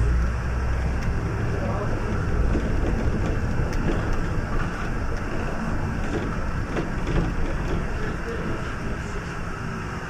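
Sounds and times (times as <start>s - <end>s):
bus engine and road rumble: 0.0s - 10.0s
light clicks and rattles: 0.2s - 9.0s.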